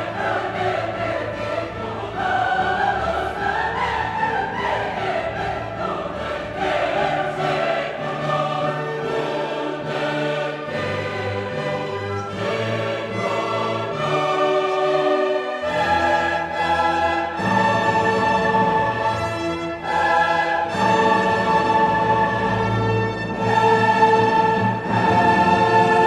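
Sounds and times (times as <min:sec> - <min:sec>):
choir singing long notes: 0:00.0 - 0:26.0
orchestral music: 0:00.0 - 0:26.0.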